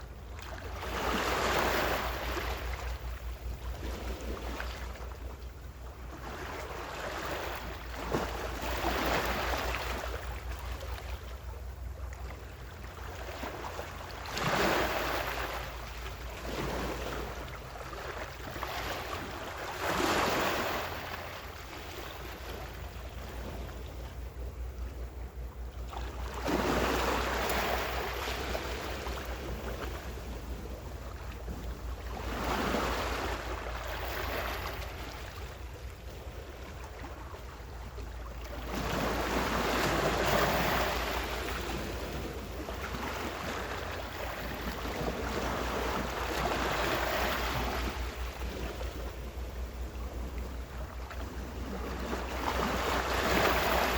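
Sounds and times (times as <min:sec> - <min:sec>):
ocean waves washing ashore: 0:00.0 - 0:53.9
wind rumble on microphone: 0:00.0 - 0:53.9.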